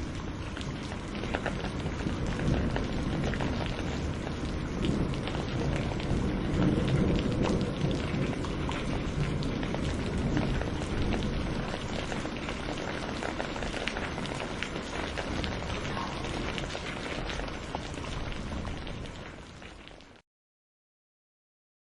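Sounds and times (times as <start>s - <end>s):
distant thunder rumble: 0.0s - 19.2s
steady rain falling: 0.0s - 20.2s.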